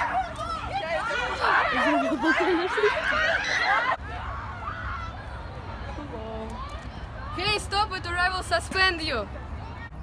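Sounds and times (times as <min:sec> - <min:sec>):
children shouting and laughing: 0:00.0 - 0:10.0.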